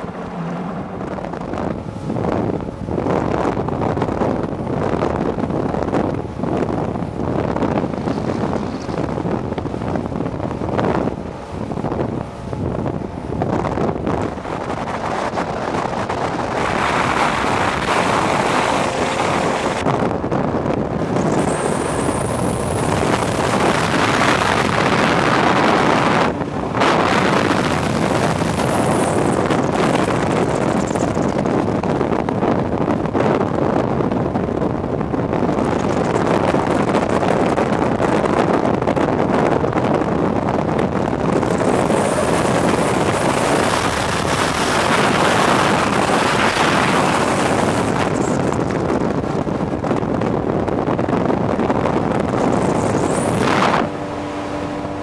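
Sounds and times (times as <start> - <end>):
outboard motor running: 0.0 - 33.3, 34.2 - 55.0
hull water noise: 0.0 - 55.0
wind rushing over microphone: 0.0 - 55.0.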